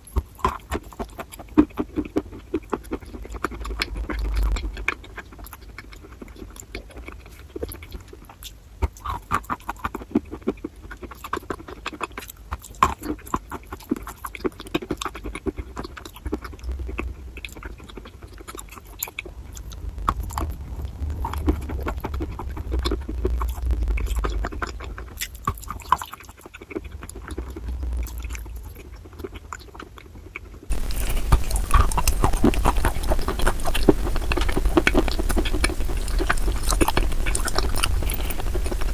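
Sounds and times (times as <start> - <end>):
chewing crunchy chalk: 0.0 - 38.9.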